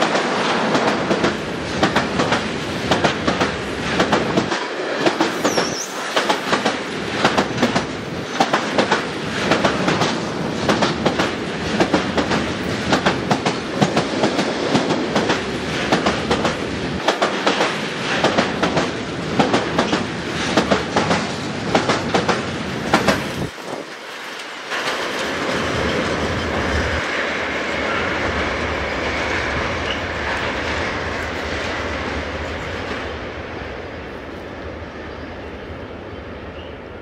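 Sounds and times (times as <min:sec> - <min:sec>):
train wheels clattering over rail joints: 0:00.0 - 0:31.8
train rumble: 0:00.0 - 0:37.0.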